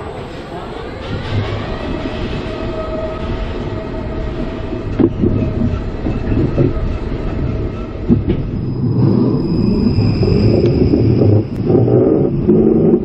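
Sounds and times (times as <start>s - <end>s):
roller coaster wheels rumbling: 0.0s - 13.0s.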